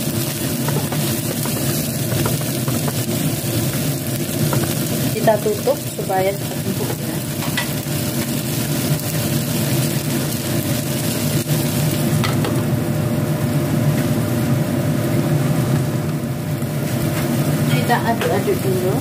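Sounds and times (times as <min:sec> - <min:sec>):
food sizzling in oil: 0:00.0 - 0:19.0
gas burner rumble: 0:00.0 - 0:19.0.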